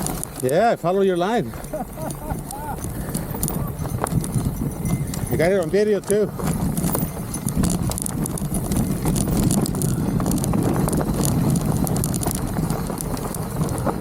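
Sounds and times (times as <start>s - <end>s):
bike rattling: 0.0s - 14.0s
tyres rumbling on dirt: 0.0s - 14.0s
wind on microphone: 1.4s - 14.0s.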